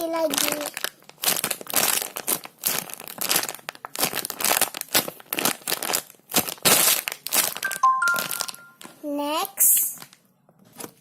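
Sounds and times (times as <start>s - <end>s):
toy wrapper crinkling and rustling: 0.0s - 9.0s, 9.6s - 11.0s.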